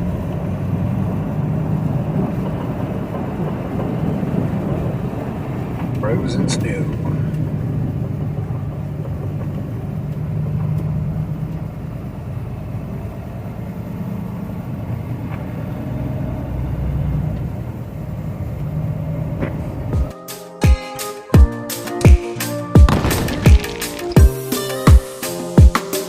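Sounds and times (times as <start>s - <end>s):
tyre and road noise: 0.0s - 20.1s, 22.8s - 24.7s
heavy truck engine drone: 0.0s - 20.6s, 22.9s - 25.6s.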